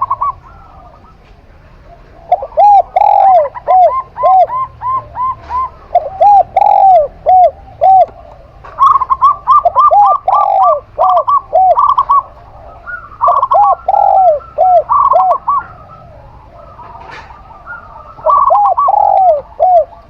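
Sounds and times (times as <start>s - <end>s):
dove low arched coos: 0.0s - 20.0s
dove quick higher coos: 0.0s - 20.0s.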